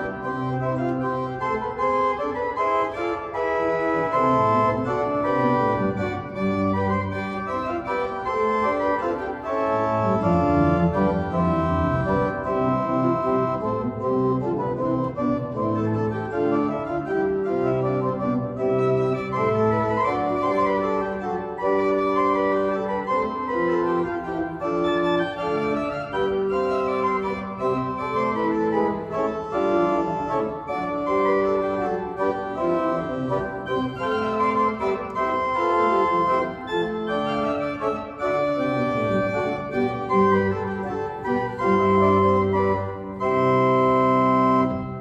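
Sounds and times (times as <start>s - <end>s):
pipe organ playing: 0.0s - 45.0s.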